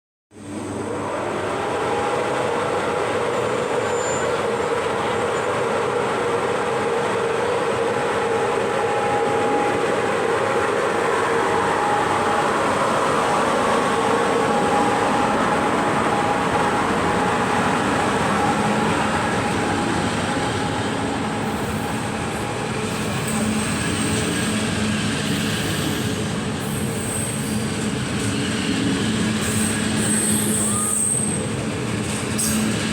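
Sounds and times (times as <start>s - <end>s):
train wheels rumbling on rails: 0.4s - 32.9s.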